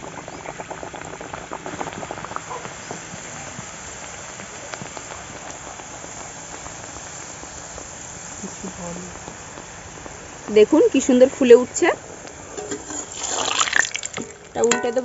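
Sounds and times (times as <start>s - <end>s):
pastry sizzling in hot oil: 0.0s - 15.0s.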